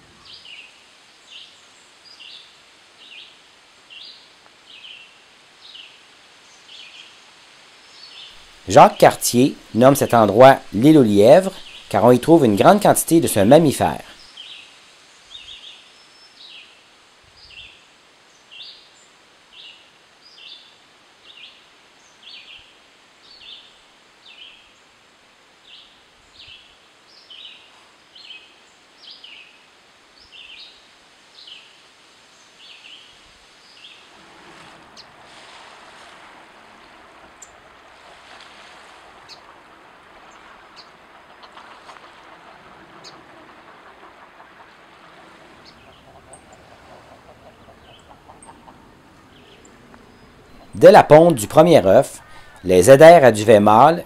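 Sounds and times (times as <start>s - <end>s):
soft rushing wash: 0.0s - 54.0s.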